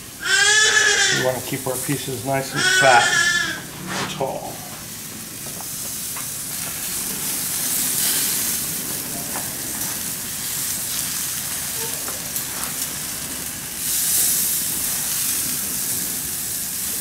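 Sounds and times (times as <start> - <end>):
fish sizzling on grill: 0.0 - 17.0.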